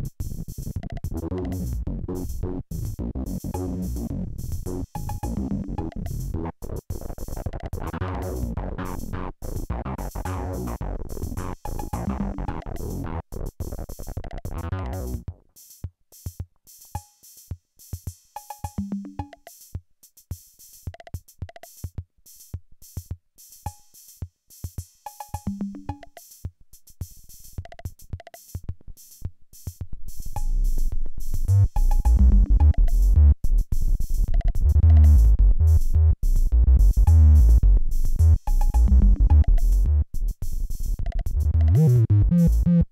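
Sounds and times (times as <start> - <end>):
drum machine beat: 0.0 - 42.9.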